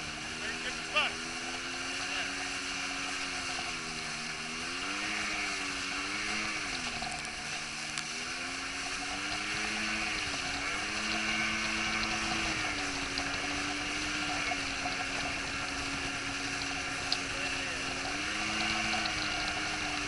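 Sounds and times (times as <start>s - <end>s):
jet ski engine running: 0.0s - 20.0s
rushing water and spray: 0.0s - 20.0s.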